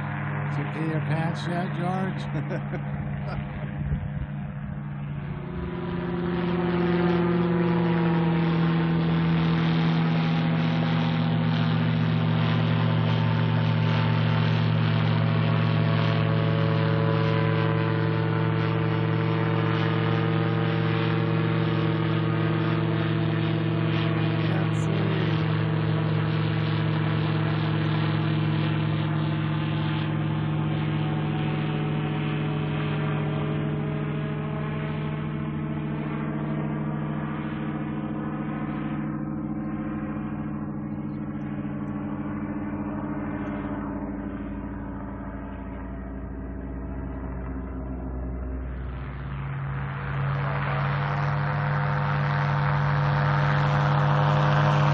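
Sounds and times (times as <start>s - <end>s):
gyrocopter engine droning overhead: 0.0s - 54.9s.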